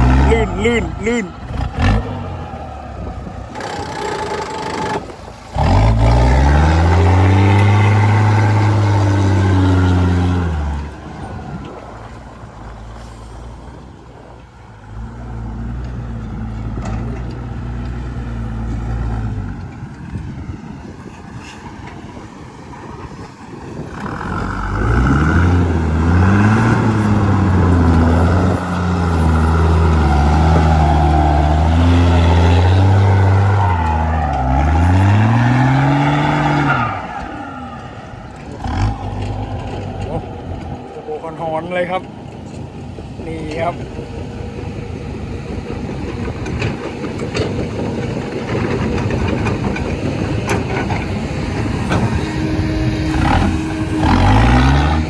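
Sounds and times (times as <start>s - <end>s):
diesel truck engine revving: 0.0s - 55.0s.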